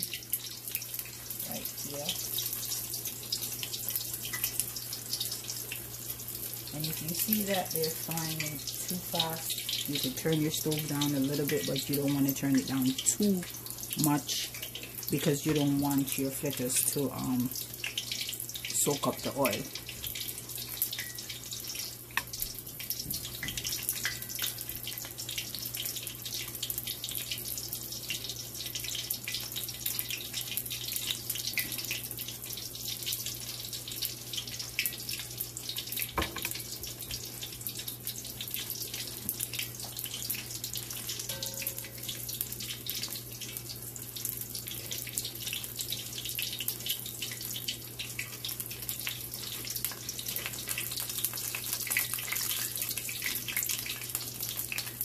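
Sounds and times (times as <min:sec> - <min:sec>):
oil crackling and sizzling: 0:00.0 - 0:55.0.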